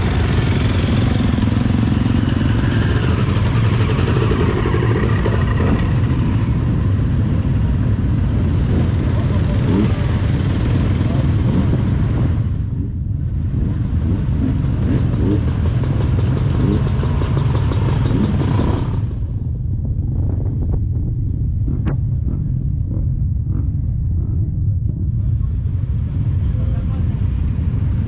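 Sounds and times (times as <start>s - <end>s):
quad engine rumbling: 0.0s - 28.0s.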